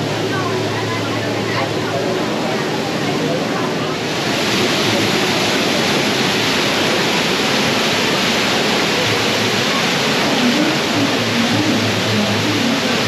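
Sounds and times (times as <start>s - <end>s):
rush of falling water: 0.0s - 13.0s.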